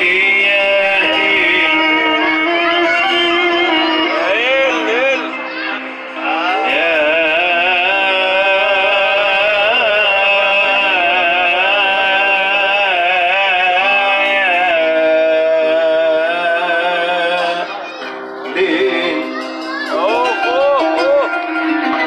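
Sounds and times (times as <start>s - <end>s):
held keyboard chords: 0.0s - 22.0s
man singing with vibrato: 0.0s - 22.0s.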